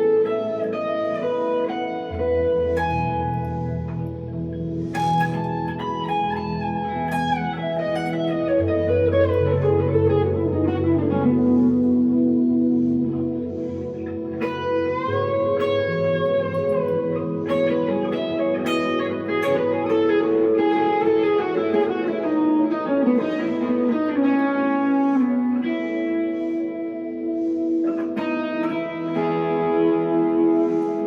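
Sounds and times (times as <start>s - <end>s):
electric guitar with reverb: 0.0s - 31.0s.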